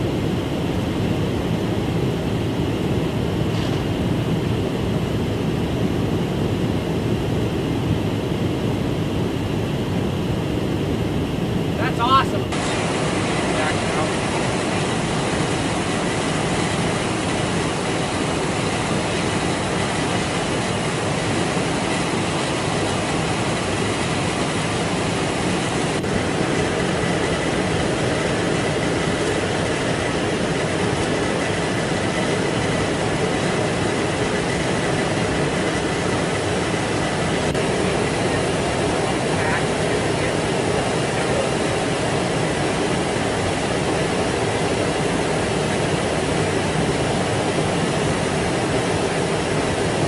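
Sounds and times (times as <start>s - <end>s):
aircraft airflow and engine drone: 0.0s - 50.0s
faint steady whine: 0.0s - 50.0s.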